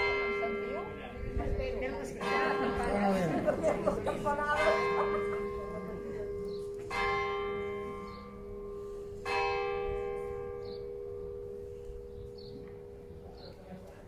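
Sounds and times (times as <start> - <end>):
church bell tolling: 0.0 - 13.6.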